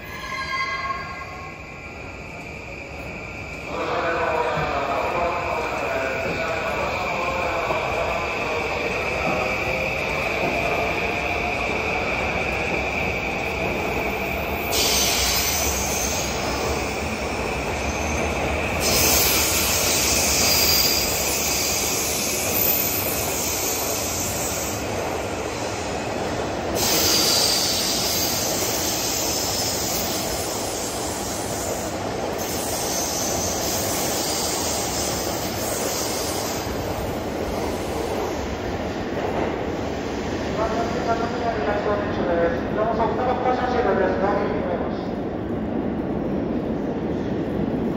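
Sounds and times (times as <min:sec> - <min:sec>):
electric train rumbling past: 0:00.0 - 0:47.9.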